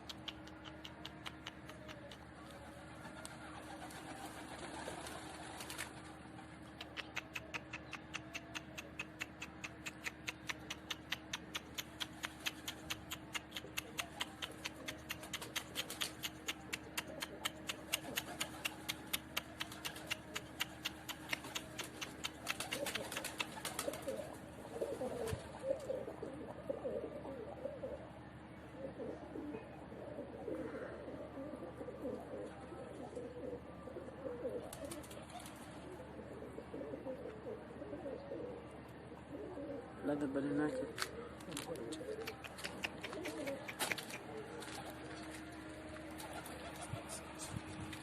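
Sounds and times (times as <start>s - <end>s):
pigeons cooing: 0.0s - 48.0s.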